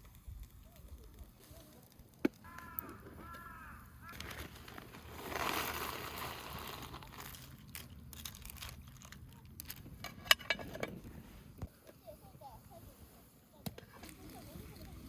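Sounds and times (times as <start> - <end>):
rustling and crinkling: 0.0 - 12.8, 13.8 - 15.0.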